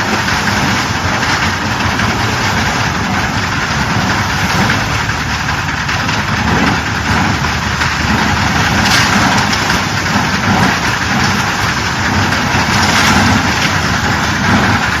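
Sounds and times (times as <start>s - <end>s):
concrete mixer running: 0.0s - 15.0s.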